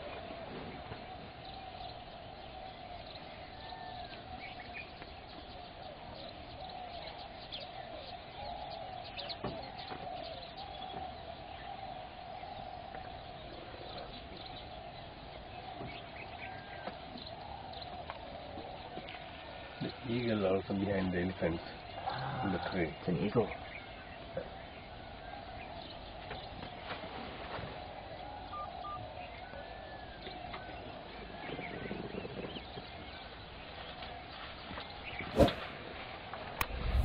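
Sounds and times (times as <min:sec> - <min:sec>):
chorus of bird calls: 0:00.0 - 0:35.7.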